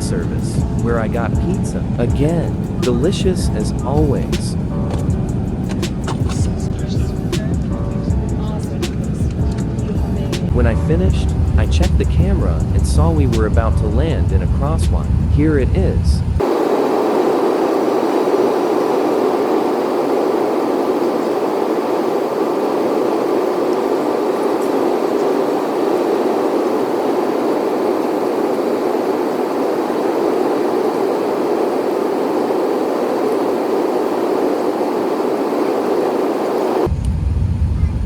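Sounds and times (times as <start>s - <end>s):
airliner cabin roar: 0.0s - 38.0s.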